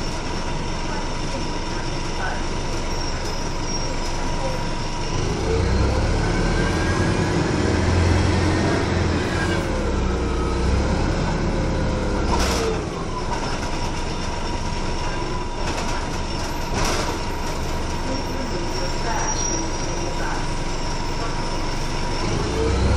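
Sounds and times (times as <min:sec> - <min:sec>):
bus engine drone: 0:00.0 - 0:22.9.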